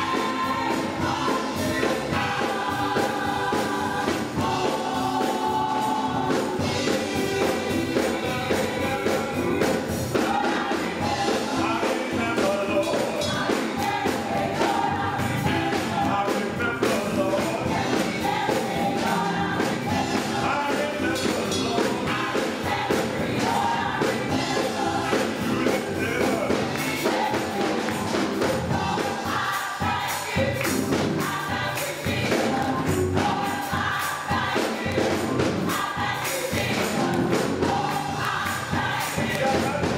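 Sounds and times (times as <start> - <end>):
band accompaniment: 0.0 - 39.9
choir singing: 0.0 - 39.9.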